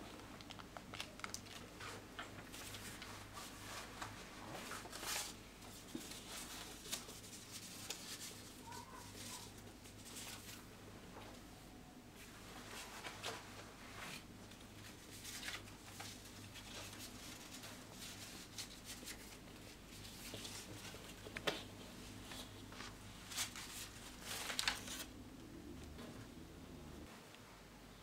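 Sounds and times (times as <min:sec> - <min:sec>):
low room hum: 0:00.0 - 0:28.0
paper rustling and crinkling: 0:00.2 - 0:10.7, 0:12.5 - 0:25.1.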